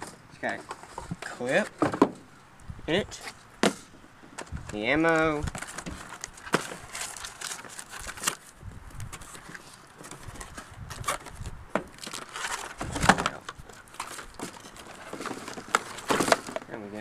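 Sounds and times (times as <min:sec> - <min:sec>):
cardboard rustling and scraping: 0:00.0 - 0:02.2, 0:03.0 - 0:17.0.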